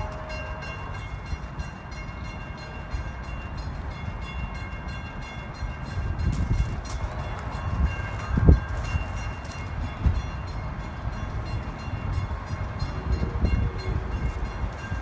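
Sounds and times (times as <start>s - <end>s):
train rumbling slowly: 0.0s - 15.0s.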